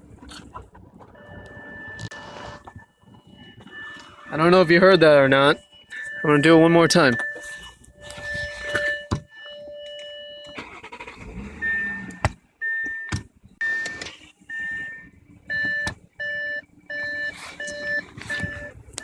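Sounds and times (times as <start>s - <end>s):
car warning chime beeping: 1.0s - 19.0s.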